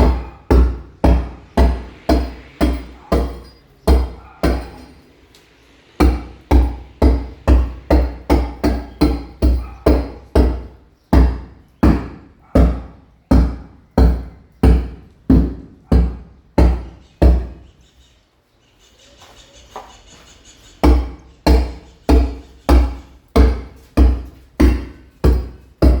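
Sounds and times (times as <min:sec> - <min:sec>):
hammer striking chisel on masonry: 0:00.0 - 0:05.1, 0:06.0 - 0:17.7, 0:20.8 - 0:26.0.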